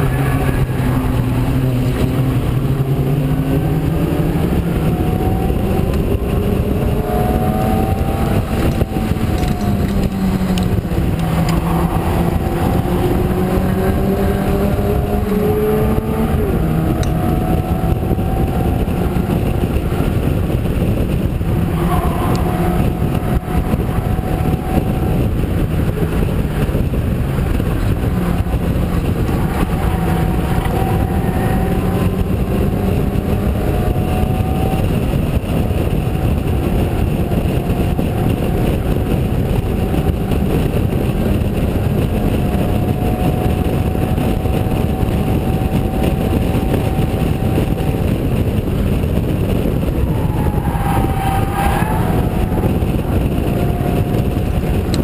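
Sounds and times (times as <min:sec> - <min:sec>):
race car engine running: 0:00.0 - 0:55.0
road noise: 0:00.0 - 0:55.0
wind noise: 0:00.0 - 0:55.0.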